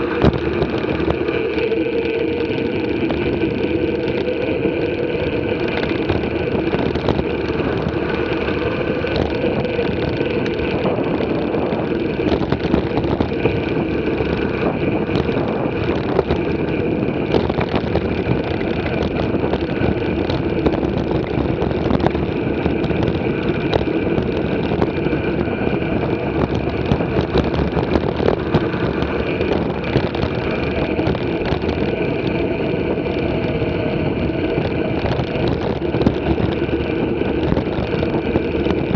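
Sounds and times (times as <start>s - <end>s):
bike clicks and knocks: 0.0s - 38.9s
bike tyres rumbling on gravel: 0.0s - 38.9s.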